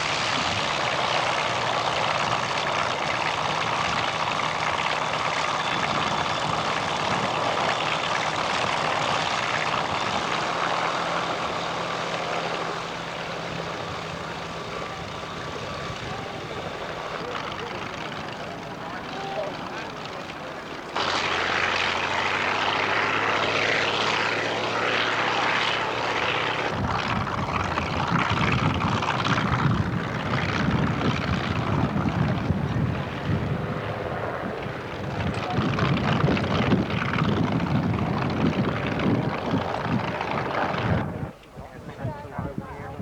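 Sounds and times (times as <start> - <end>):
light aircraft engine droning: 0.0 - 43.0.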